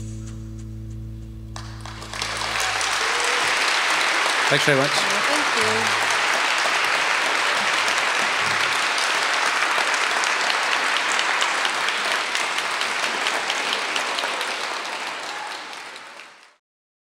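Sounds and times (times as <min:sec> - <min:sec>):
audience applauding: 0:01.6 - 0:16.6.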